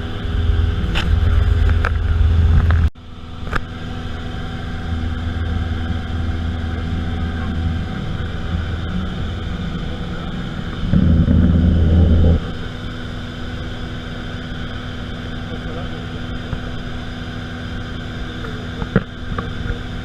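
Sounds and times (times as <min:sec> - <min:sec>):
aeroplane engine droning: 0:00.0 - 0:20.0.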